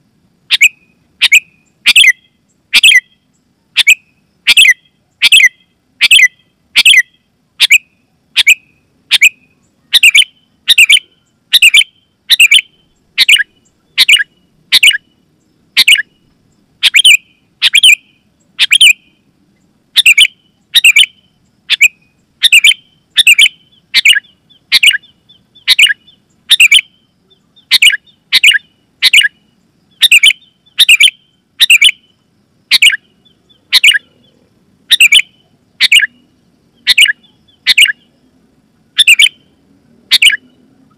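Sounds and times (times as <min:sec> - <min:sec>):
bird chirping sharply: 0:00.5 - 0:15.2, 0:15.8 - 0:19.3, 0:20.0 - 0:38.2, 0:39.0 - 0:40.6.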